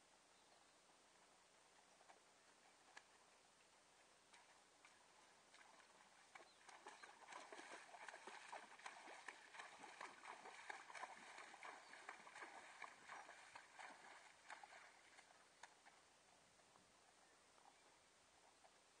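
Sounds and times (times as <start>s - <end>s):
hooves splashing through water: 1.1s - 19.0s.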